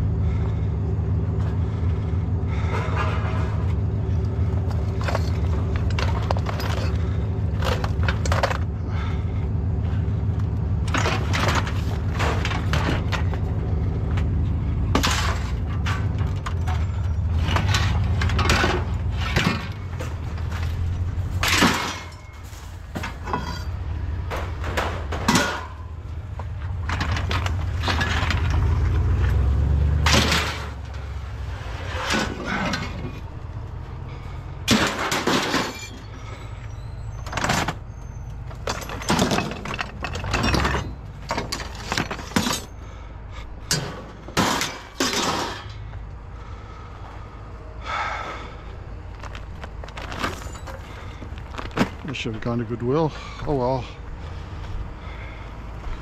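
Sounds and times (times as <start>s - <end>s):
scrap metal clanking and crashing: 0.3s - 47.0s, 49.2s - 54.0s.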